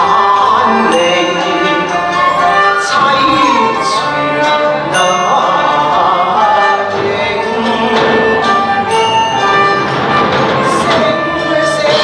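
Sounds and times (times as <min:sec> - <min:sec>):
woman singing opera: 0:00.0 - 0:09.8, 0:10.5 - 0:12.0
plucked strings: 0:00.0 - 0:12.0
traditional instrumental ensemble: 0:00.0 - 0:12.0.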